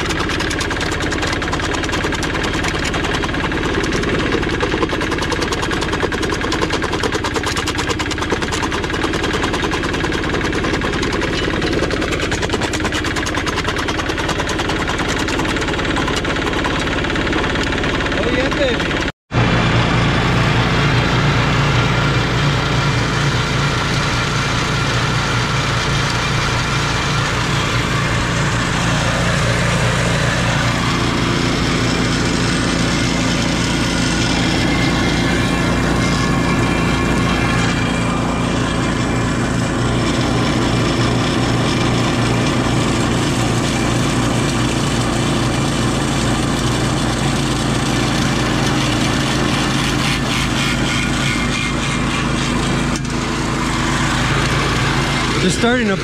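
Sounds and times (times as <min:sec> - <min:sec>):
ore crusher and mill grinding: 0:00.0 - 0:56.0
small engines running: 0:00.0 - 0:56.0.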